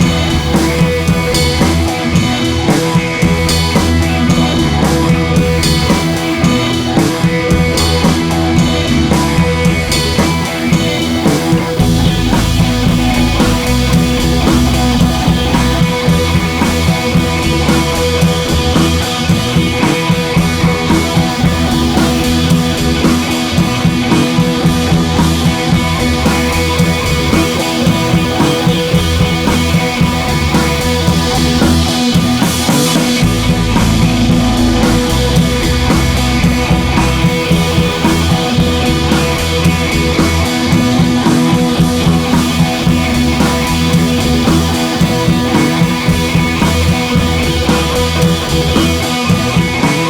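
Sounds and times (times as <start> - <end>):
rock music: 0.0 - 50.0.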